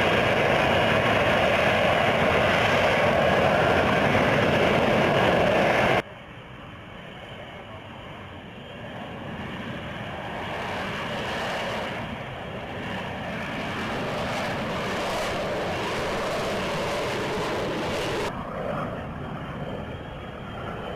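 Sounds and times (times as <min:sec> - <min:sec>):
jet engine roar: 0:00.0 - 0:20.9.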